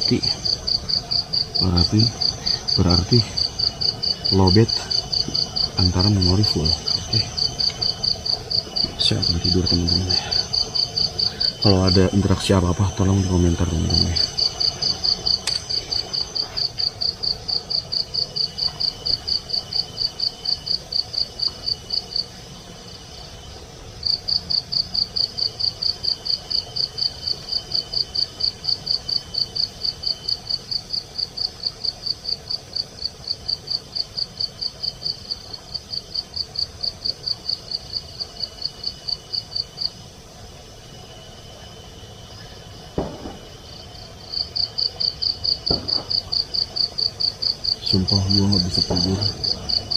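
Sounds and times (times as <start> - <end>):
cricket chirping: 0.0 - 49.9
faint high insect tone: 0.0 - 49.9.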